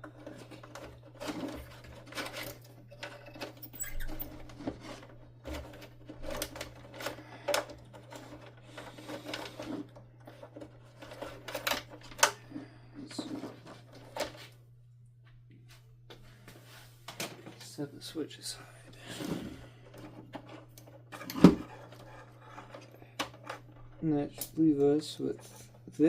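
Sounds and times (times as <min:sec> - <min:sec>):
plastic and metal parts clattering: 0:00.0 - 0:14.6, 0:19.1 - 0:26.0.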